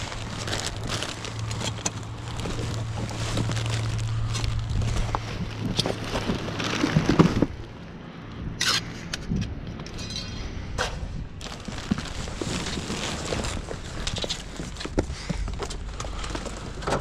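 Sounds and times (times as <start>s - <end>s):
cardboard and trash bags rustling: 0.0s - 7.8s, 10.0s - 17.0s.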